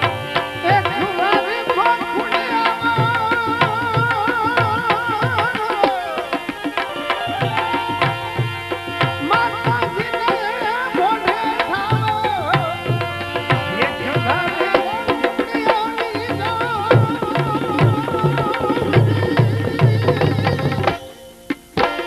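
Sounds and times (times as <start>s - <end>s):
tabla beat: 0.0s - 22.0s.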